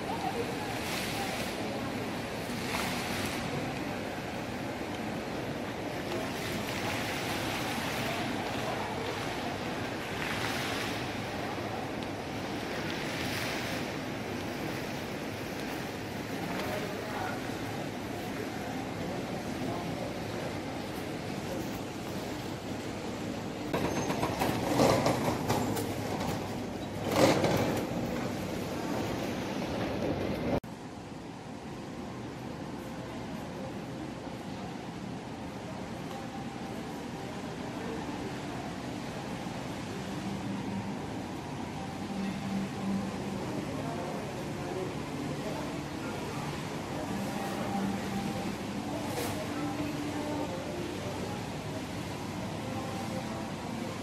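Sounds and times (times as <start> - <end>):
indoor mall ambient noise: 0.0 - 54.0.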